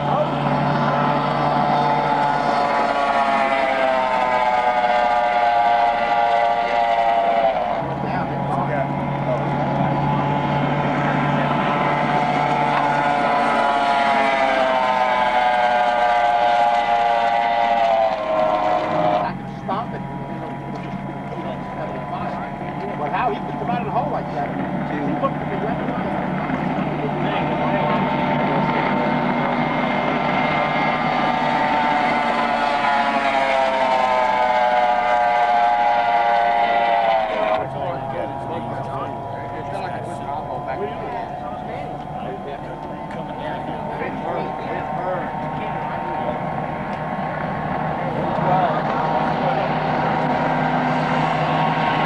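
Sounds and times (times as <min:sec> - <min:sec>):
speedboat outboard engine passing: 0:00.0 - 0:52.0.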